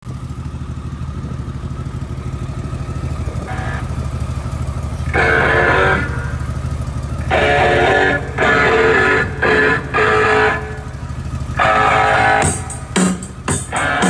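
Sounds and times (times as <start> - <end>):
motorcycle engine idling: 0.0 - 14.0
guitar music: 2.0 - 14.0.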